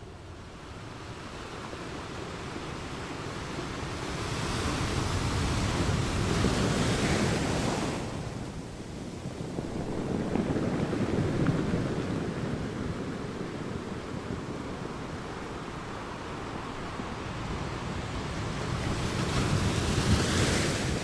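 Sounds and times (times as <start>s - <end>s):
ocean waves rushing: 2.8s - 21.0s.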